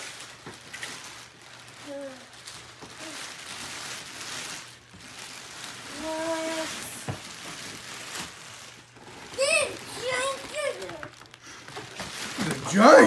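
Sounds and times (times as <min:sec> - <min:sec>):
wrapping paper tearing and crumpling: 0:00.0 - 0:13.0.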